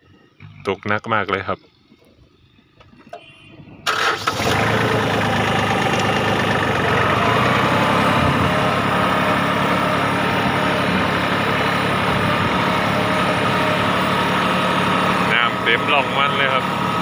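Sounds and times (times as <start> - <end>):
tractor engine starting and running: 0.0 - 17.0.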